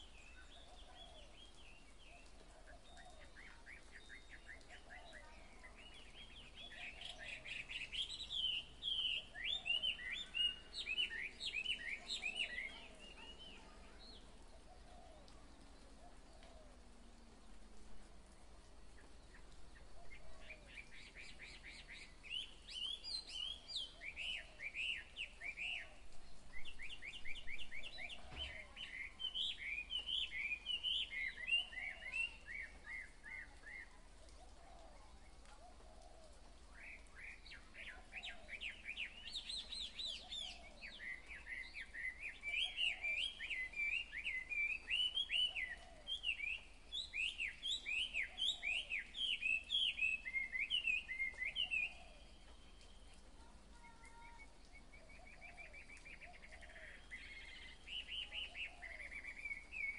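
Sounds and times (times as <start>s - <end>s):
songbird chirping and trilling: 0.0s - 17.6s, 18.3s - 59.9s.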